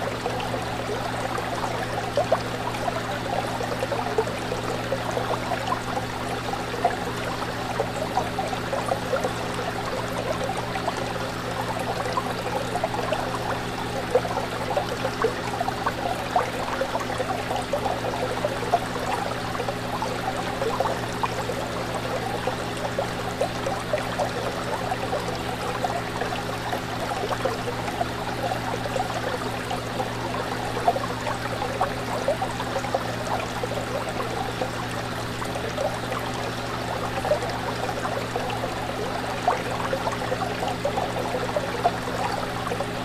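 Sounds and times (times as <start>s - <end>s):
fish tank water bubbling: 0.0s - 43.0s.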